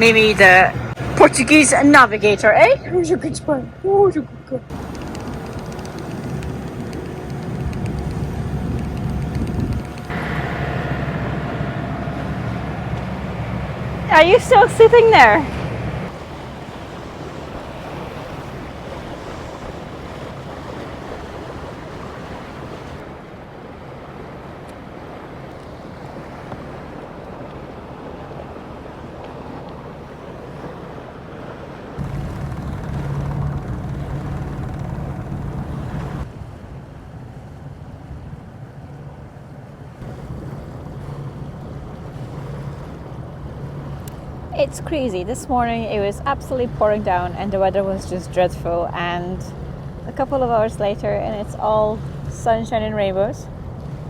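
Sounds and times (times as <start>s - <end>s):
boat engine hum: 0.0s - 54.0s
wind and water rushing: 0.0s - 54.0s.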